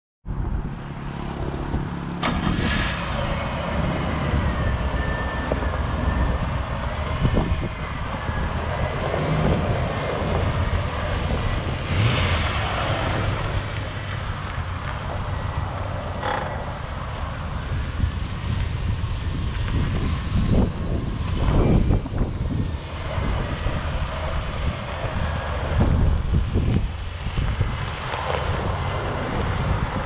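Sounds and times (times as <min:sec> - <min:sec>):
wind buffeting microphone: 0:03.8 - 0:30.0.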